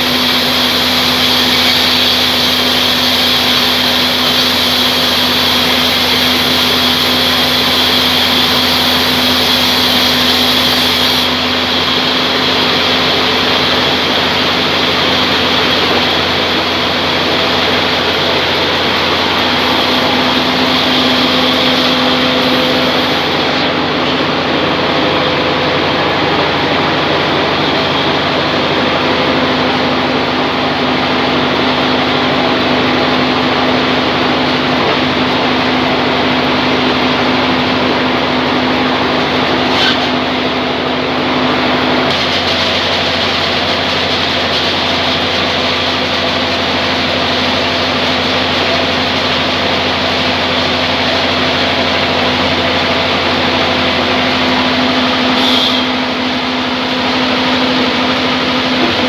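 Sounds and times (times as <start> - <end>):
band saw machine humming: 0.0 - 59.0.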